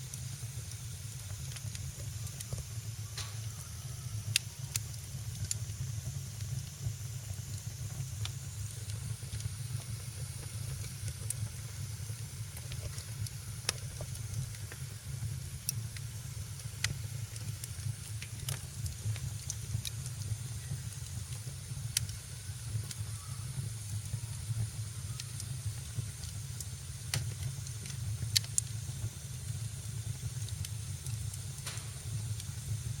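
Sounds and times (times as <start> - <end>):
fire popping: 0.0 - 33.0
wood fire crackling: 0.0 - 33.0.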